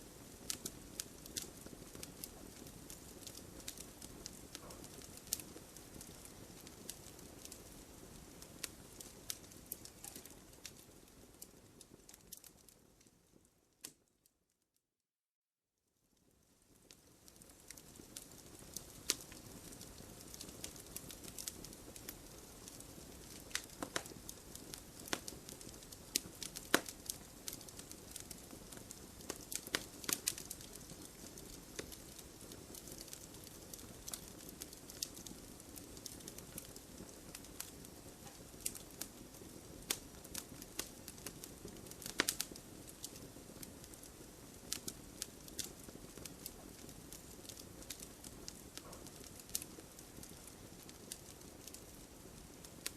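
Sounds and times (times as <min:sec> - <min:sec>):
fireplace fire burning: 0:00.0 - 0:14.5, 0:16.0 - 0:52.9
logs crackling and popping: 0:00.1 - 0:14.1, 0:16.7 - 0:52.9.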